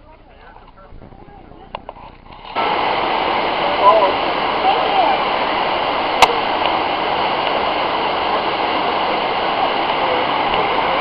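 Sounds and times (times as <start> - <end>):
running water rushing: 1.7 - 11.0.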